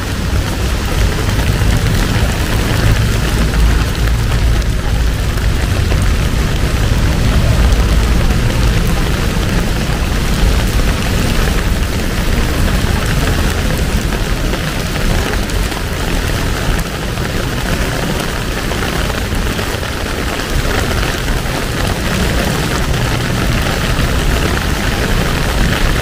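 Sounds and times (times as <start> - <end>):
deep low rumble: 0.0 - 26.0
heavy rain falling: 0.0 - 26.0.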